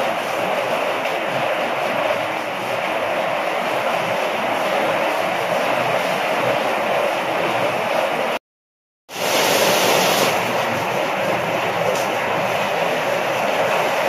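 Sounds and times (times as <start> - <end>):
heavy rain falling: 0.0 - 8.4, 9.1 - 14.0.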